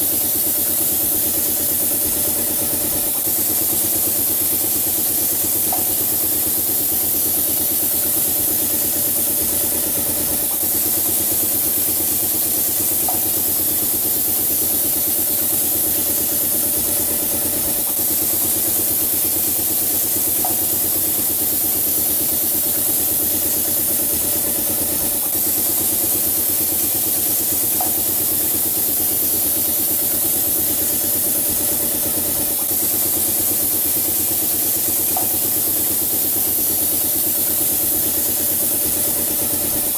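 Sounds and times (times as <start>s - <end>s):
air compressor hum: 0.0s - 39.9s
spray gun hissing: 0.0s - 39.9s.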